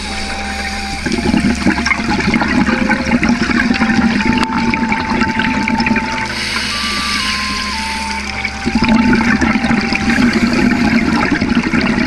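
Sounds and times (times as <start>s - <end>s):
soft background music: 0.0s - 12.0s
underwater bubbling and gurgling: 0.0s - 12.0s.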